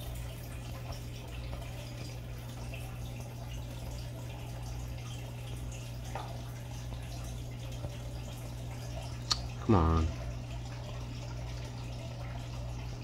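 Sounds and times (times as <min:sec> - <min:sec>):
aquarium water trickling: 0:00.0 - 0:13.0.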